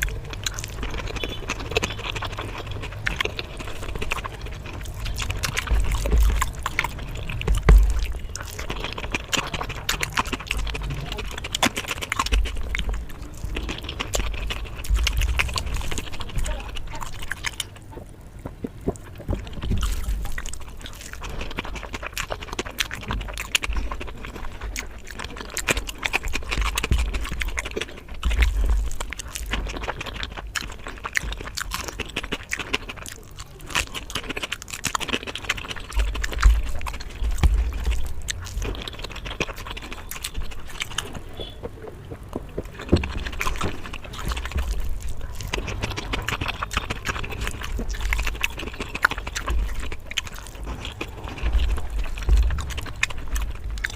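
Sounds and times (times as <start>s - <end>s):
person chewing and smacking food: 0.0s - 53.9s.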